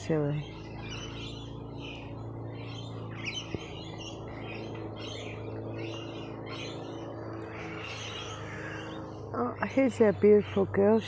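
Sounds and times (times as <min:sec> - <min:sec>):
birds chirping: 0:00.0 - 0:11.0
low motor hum: 0:00.0 - 0:11.0.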